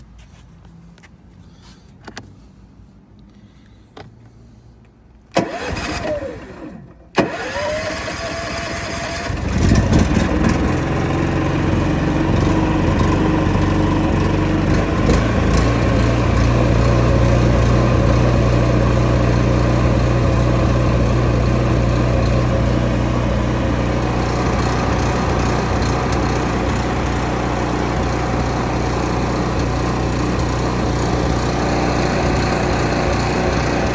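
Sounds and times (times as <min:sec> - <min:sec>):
generator cranking: 0:05.3 - 0:33.9
generator engine rough idle: 0:05.4 - 0:33.9.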